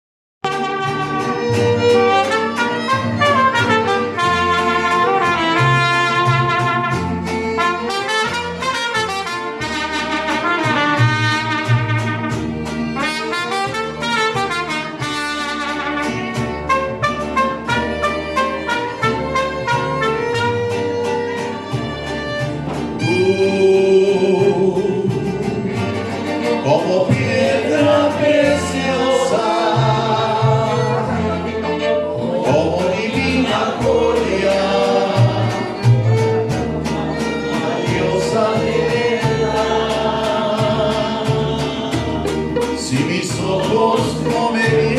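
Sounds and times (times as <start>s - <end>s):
mariachi band playing: 0.4s - 44.9s.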